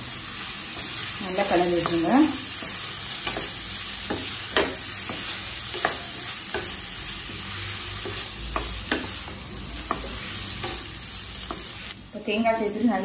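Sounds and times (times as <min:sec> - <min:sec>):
food sizzling in oil: 0:00.0 - 0:13.0
spatula scraping and knocking pan: 0:00.7 - 0:11.8.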